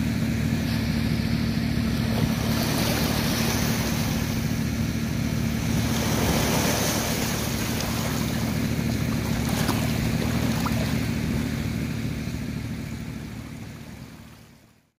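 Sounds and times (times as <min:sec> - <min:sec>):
wind rumbling on microphone: 0:00.0 - 0:14.2
small waves on sandy shore: 0:00.0 - 0:14.9
steady low hum: 0:00.0 - 0:14.9.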